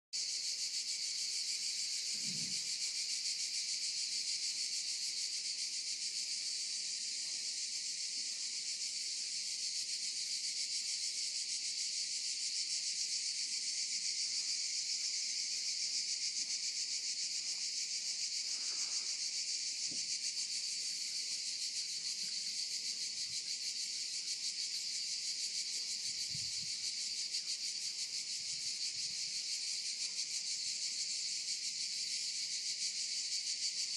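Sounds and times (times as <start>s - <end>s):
insects buzzing chorus: 0.2s - 33.9s.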